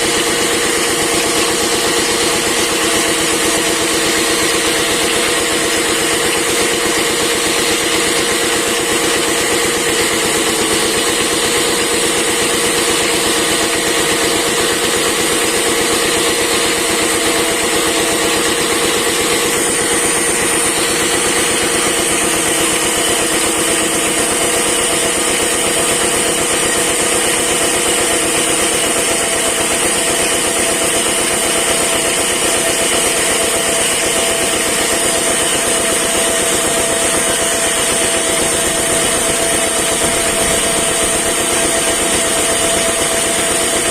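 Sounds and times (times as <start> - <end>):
wood-cutting machine droning: 0.0 - 43.9.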